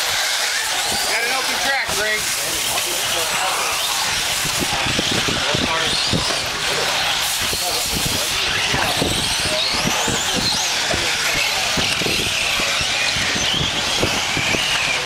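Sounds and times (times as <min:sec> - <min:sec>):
rc car engines screaming: 0:00.0 - 0:15.0.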